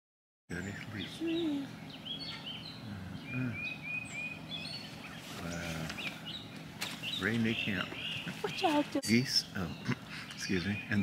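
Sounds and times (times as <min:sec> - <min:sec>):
birds chirping: 0:00.5 - 0:11.0
lower deeper bird calls: 0:00.5 - 0:11.0.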